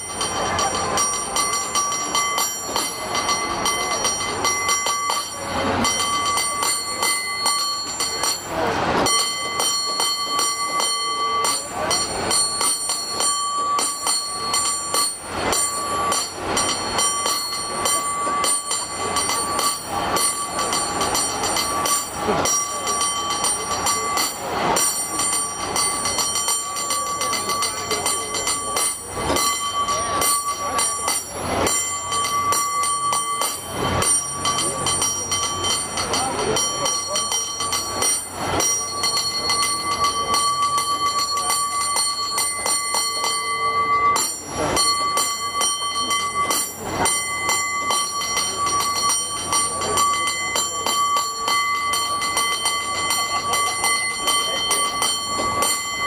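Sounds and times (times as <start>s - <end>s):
cable car bell ringing: 0.0s - 56.0s.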